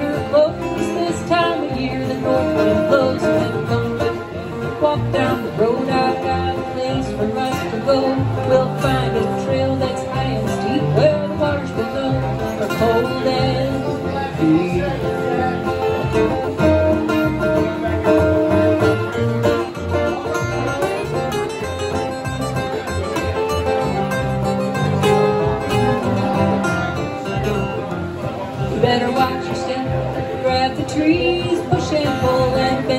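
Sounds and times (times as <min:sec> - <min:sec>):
acoustic guitars strumming: 0:00.0 - 0:32.9
plucked upright bass: 0:00.0 - 0:32.9.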